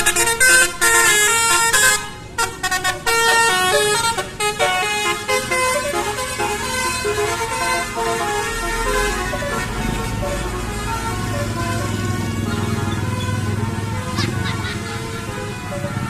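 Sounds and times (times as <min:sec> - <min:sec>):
bus horns playing a tune: 0:00.0 - 0:16.0.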